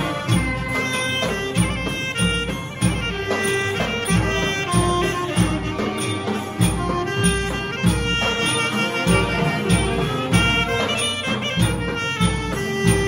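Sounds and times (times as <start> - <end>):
low drum beat: 0.0 - 13.0
saxophone melody: 0.0 - 13.0.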